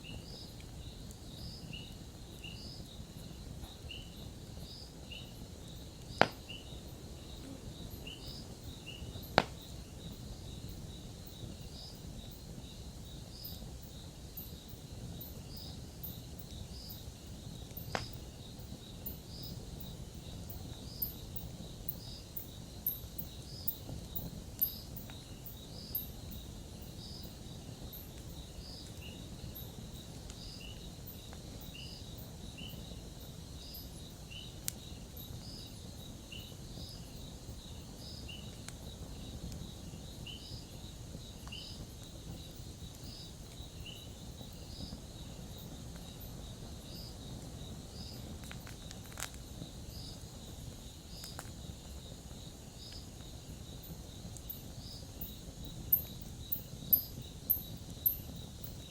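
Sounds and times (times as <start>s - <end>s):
campfire crackles: 0.0s - 58.9s
crickets chirping: 0.0s - 58.9s.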